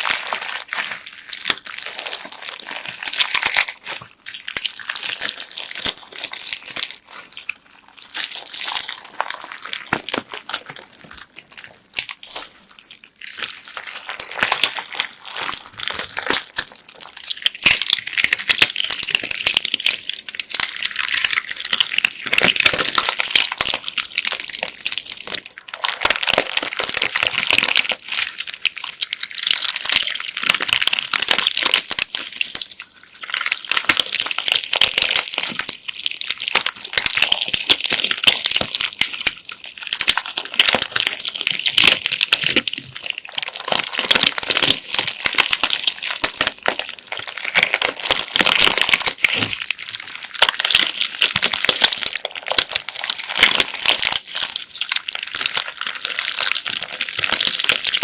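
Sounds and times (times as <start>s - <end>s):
bead slime crackling and squishing: 0.0s - 58.0s.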